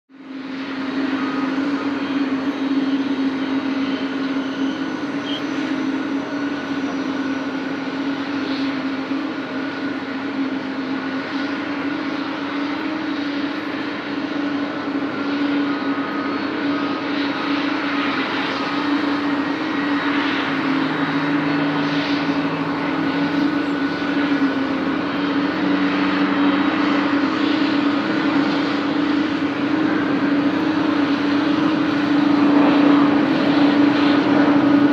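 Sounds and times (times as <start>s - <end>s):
jet engines roaring on takeoff: 0.1s - 34.9s.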